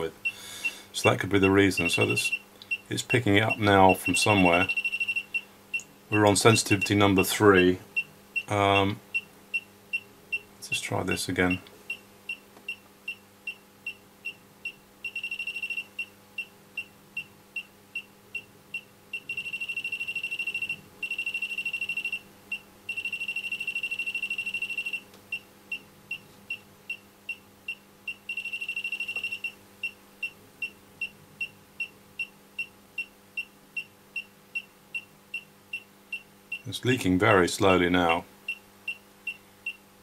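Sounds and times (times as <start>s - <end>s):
leak detector beeping: 0.0s - 10.4s, 11.5s - 36.7s, 38.5s - 39.8s.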